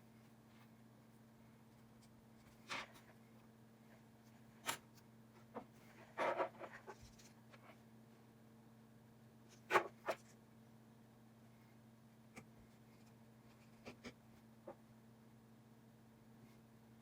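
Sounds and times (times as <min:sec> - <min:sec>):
steady faint hum: 0:00.0 - 0:17.0.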